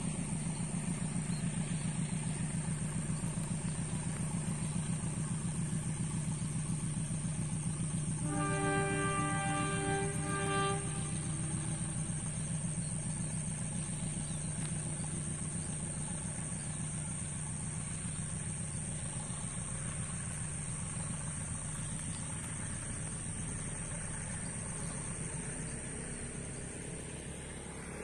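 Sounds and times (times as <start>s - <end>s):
passing train rumble: 0.0s - 28.0s.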